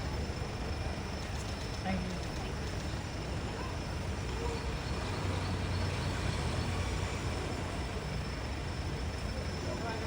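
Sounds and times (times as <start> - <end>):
street noise hiss: 0.0 - 10.0.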